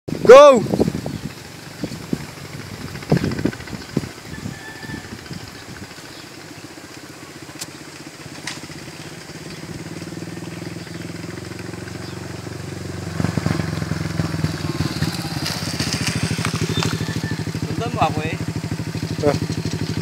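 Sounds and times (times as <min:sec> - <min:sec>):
motorcycle engine approaching: 0:00.1 - 0:20.0.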